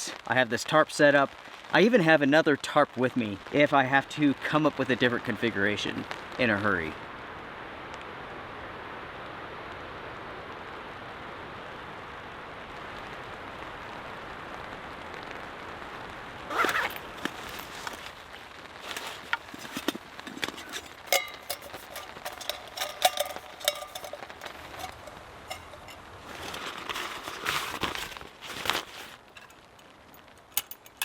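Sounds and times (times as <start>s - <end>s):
rain hiss: 0.0s - 31.0s
wind in forest: 3.2s - 31.0s.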